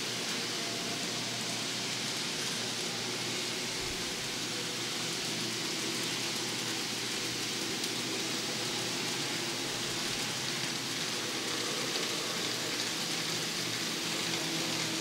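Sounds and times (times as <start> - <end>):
model train wheels on track: 0.0 - 15.0.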